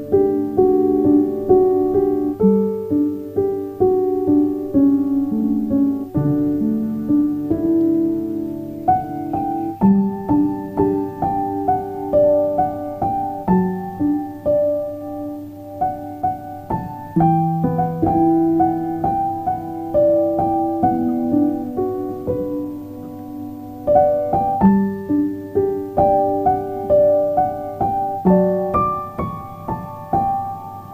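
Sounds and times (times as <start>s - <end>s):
gentle piano music: 0.0s - 30.9s.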